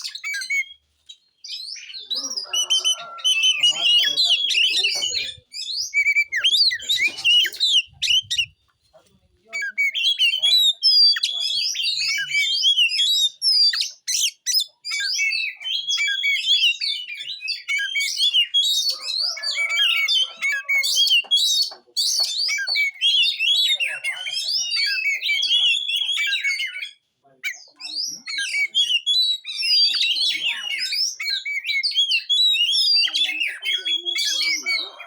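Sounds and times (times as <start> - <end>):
bird singing chirps and whistles: 0.0 - 8.6, 9.6 - 35.0.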